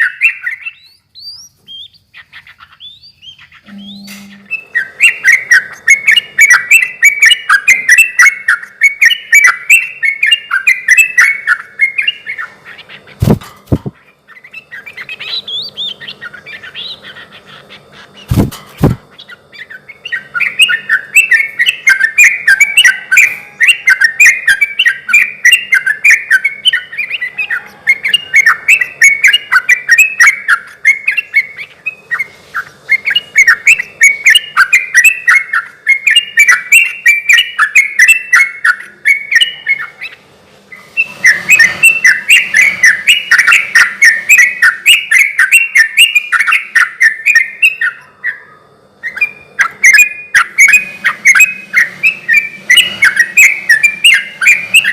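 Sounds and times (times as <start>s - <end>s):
bird bubbling chattering song: 0.0s - 54.9s.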